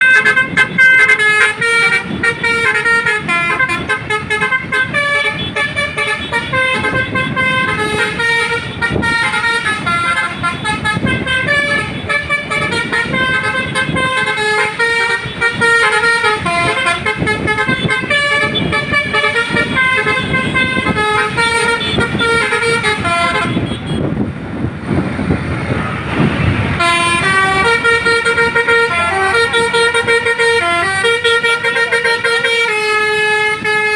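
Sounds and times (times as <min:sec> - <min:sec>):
multi-tone musical bus horn: 0:00.0 - 0:24.3, 0:26.0 - 0:33.9.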